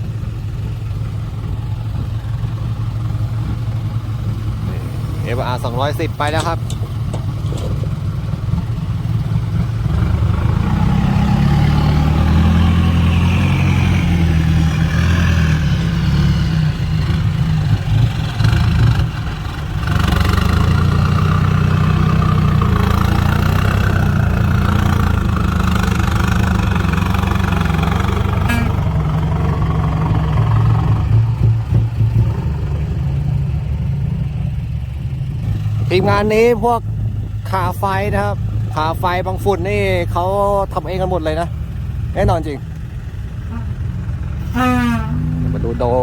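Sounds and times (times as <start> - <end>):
dump truck engine pulling away: 0.0 - 46.0.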